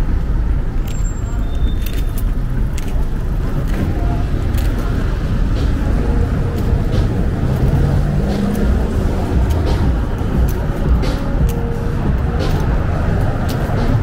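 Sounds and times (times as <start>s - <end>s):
low rumble of road traffic: 0.0s - 14.0s
passing vehicle engine hum: 0.0s - 14.0s.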